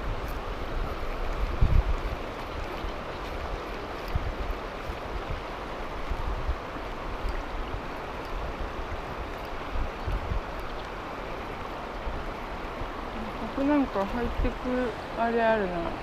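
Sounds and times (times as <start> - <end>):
river water rushing: 0.0 - 16.0
wind buffeting microphone: 0.0 - 16.0.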